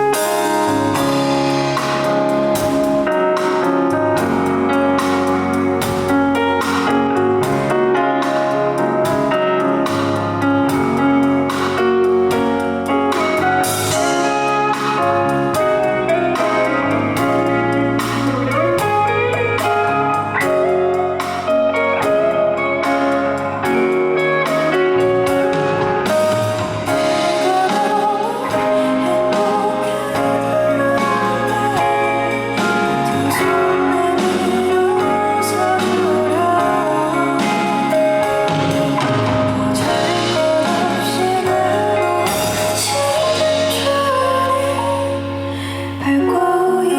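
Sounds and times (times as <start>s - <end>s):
guitar lead: 0.0s - 46.9s
live band instrumental music: 0.0s - 46.9s.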